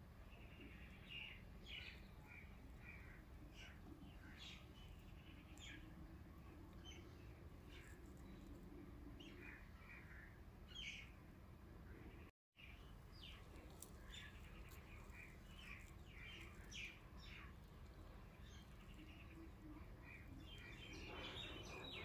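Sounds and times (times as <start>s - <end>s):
faint birds chirping: 0.0s - 22.0s
low background hum: 0.0s - 22.0s.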